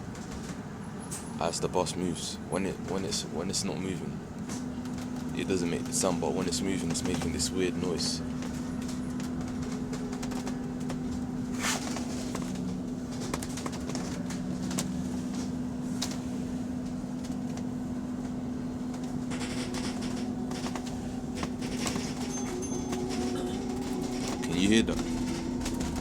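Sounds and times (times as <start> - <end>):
bus ride rumble: 0.0 - 26.0
electric bus drivetrain hum: 0.0 - 26.0.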